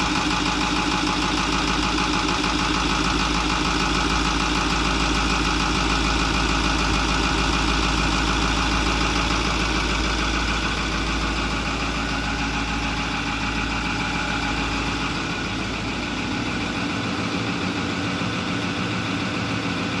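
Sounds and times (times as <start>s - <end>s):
diesel engine idling with clatter: 0.0s - 20.0s.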